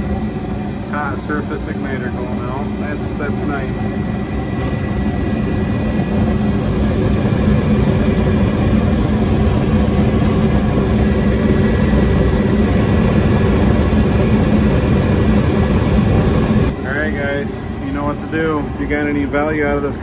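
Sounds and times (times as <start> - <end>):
gas furnace roaring: 0.0 - 20.0.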